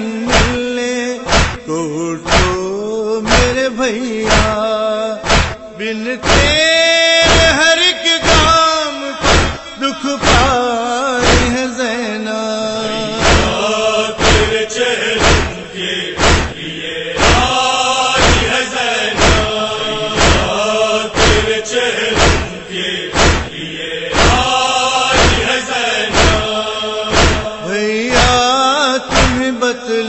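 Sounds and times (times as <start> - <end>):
sharp rhythmic strikes: 0.0 - 11.7, 13.0 - 29.6
men chanting: 0.0 - 30.0.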